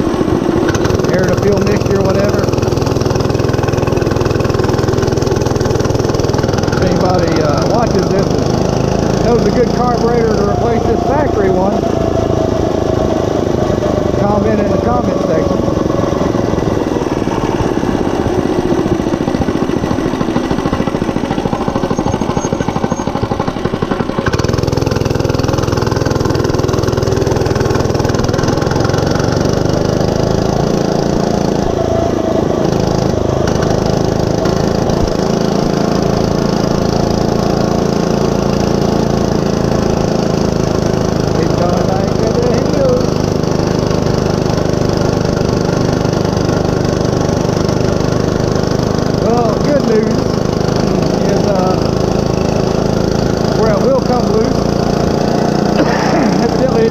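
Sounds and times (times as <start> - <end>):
mini bike engine running: 0.0 - 56.9.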